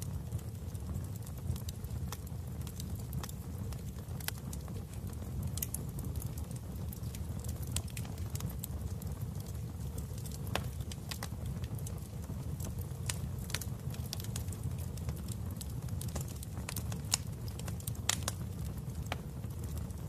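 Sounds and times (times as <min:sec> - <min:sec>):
fire crackling in a fireplace: 0:00.0 - 0:20.0.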